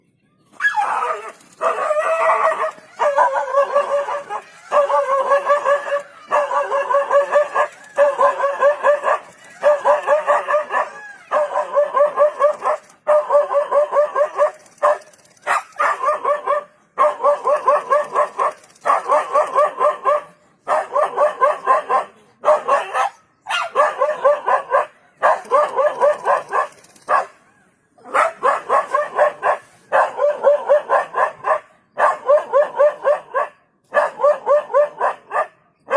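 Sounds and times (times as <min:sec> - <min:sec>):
dog barking: 0:00.6 - 0:27.4, 0:28.0 - 0:35.9.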